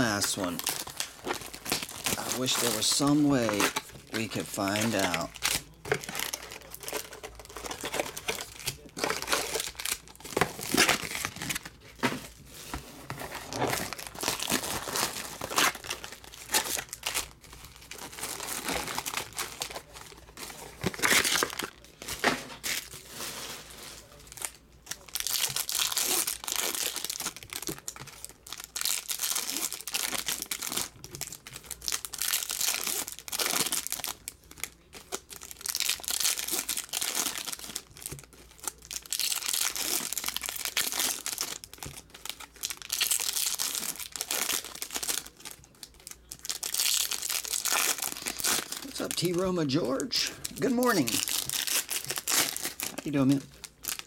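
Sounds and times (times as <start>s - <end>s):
foil wrappers tearing and crinkling: 0.0s - 54.0s.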